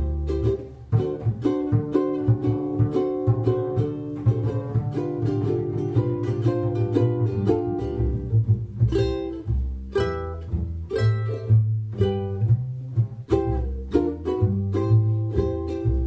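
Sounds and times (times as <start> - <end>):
plucked double bass: 0.0 - 16.0
ukulele strumming chords: 0.0 - 16.0.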